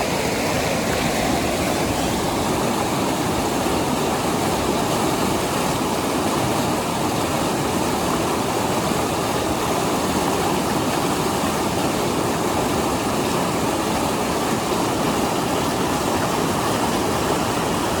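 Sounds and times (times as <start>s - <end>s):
fast river water rushing: 0.0s - 18.0s.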